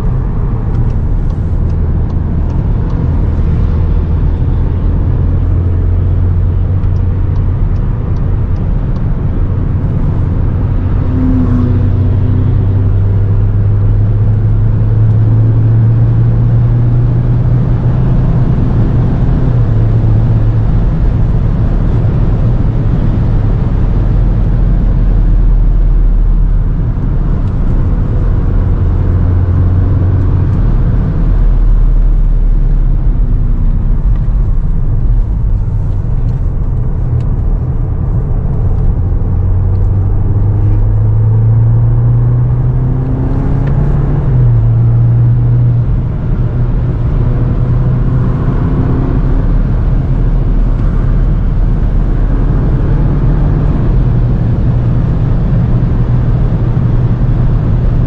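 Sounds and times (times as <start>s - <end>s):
car engine droning: 0.0s - 58.0s
road and wind noise: 0.0s - 58.0s.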